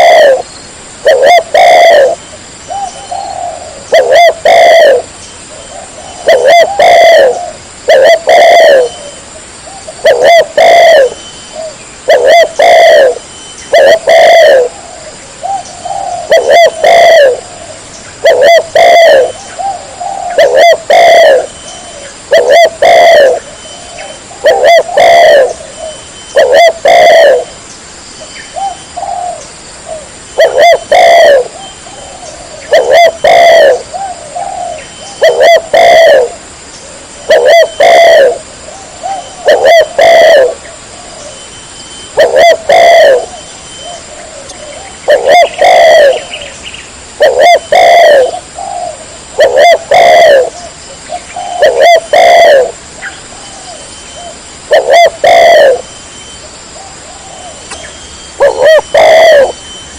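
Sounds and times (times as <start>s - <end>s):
dove cooing: 0.0s - 27.6s, 28.5s - 59.9s.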